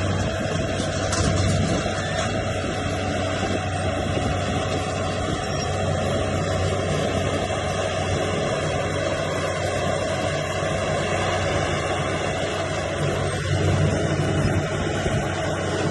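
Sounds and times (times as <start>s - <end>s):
bulldozer diesel engine running: 0.0s - 15.9s.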